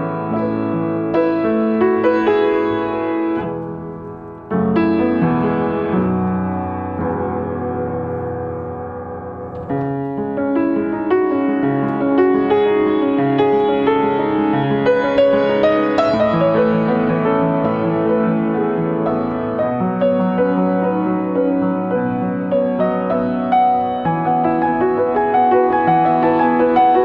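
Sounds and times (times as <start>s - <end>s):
upright piano playing: 0.0s - 27.0s.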